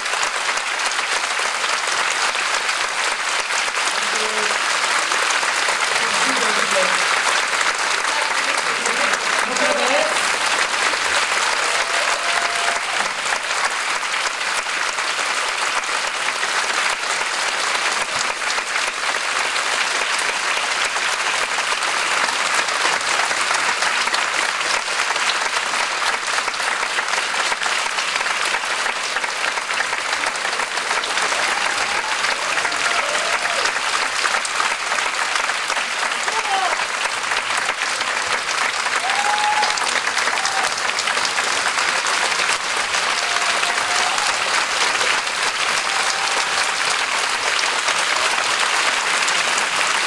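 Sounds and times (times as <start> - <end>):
audience applauding: 0.0 - 50.0.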